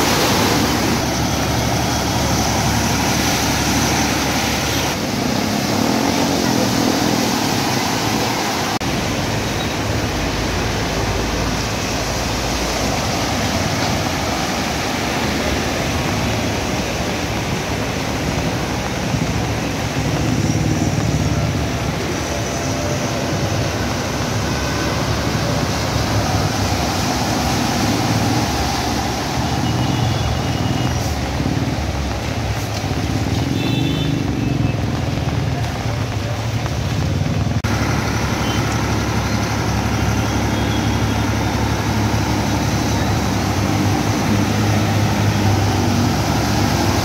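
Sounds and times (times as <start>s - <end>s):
heavy vehicle rumble: 0.0s - 47.0s
traffic engines: 0.0s - 47.0s
water rushing: 0.0s - 47.0s.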